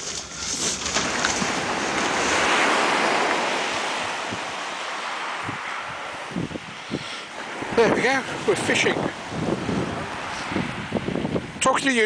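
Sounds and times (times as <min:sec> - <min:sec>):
surf breaking on stony beach: 0:00.0 - 0:12.0.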